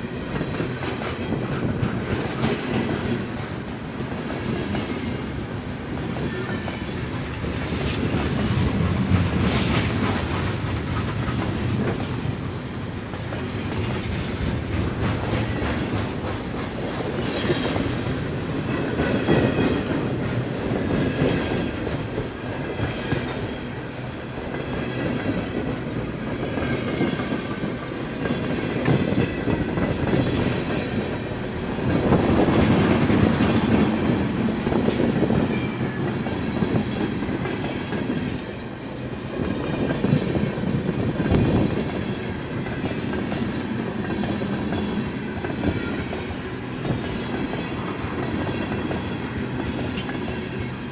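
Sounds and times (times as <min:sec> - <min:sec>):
train wheels clattering over rails: 0:00.0 - 0:50.9.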